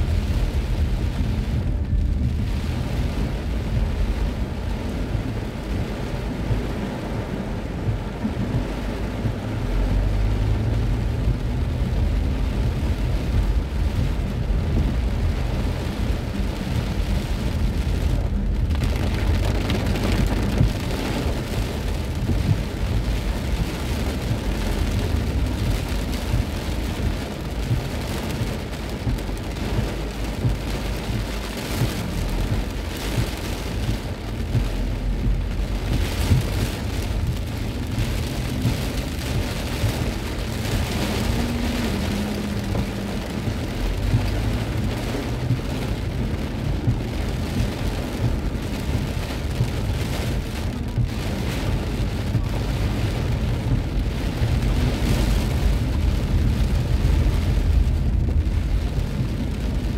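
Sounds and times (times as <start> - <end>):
heavy rain on car roof: 0.0 - 59.9
steady low rumble: 0.0 - 59.9.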